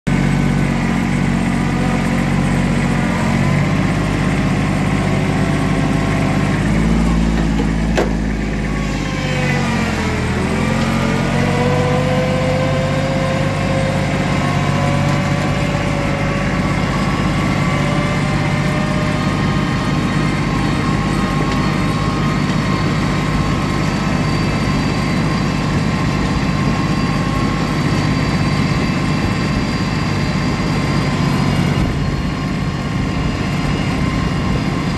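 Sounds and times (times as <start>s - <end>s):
vehicle engine running: 0.1s - 34.9s.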